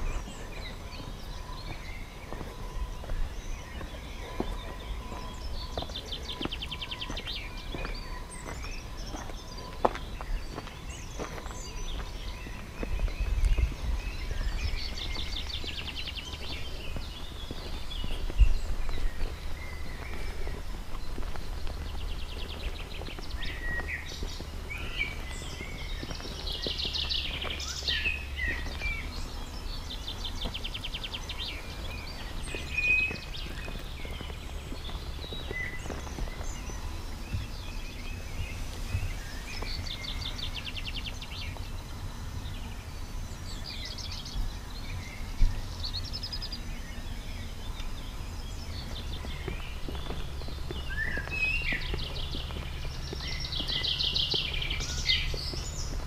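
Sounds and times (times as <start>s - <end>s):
songbirds singing: 0.0s - 56.0s
steady low rumble: 0.0s - 56.0s.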